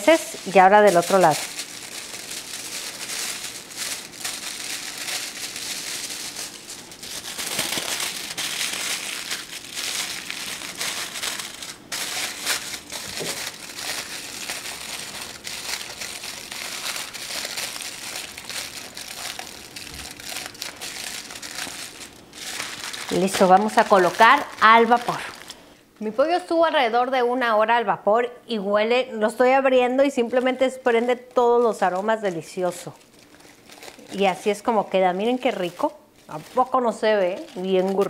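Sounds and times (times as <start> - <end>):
aluminium foil crinkling: 0.0 - 25.7, 30.0 - 38.0.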